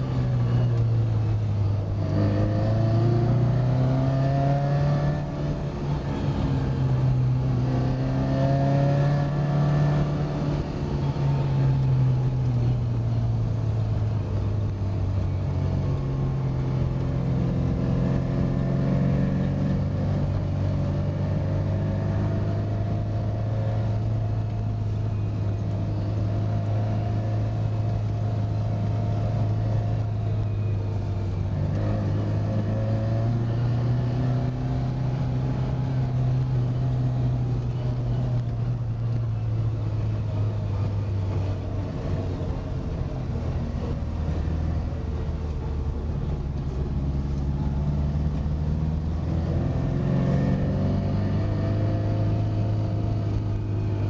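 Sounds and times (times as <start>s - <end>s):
car engine pulling uphill: 0.0s - 54.0s.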